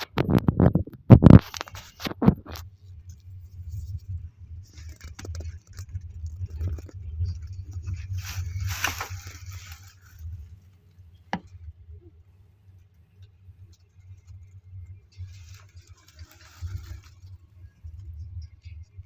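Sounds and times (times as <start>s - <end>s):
rattles and scrapes: 0.0s - 11.8s, 12.8s - 18.6s.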